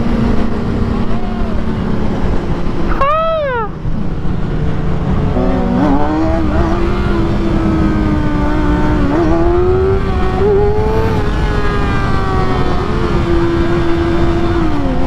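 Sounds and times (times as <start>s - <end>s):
motorcycle engine at high revs: 0.0s - 15.0s
wind rush: 0.0s - 15.0s.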